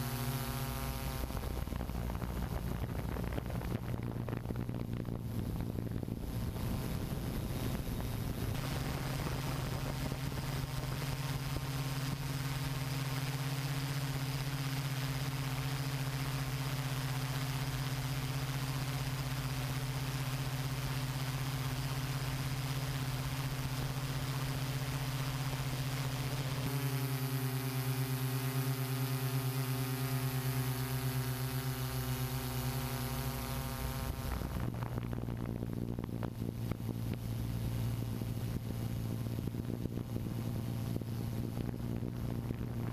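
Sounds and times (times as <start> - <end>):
drone propellers humming: 0.0 - 42.9.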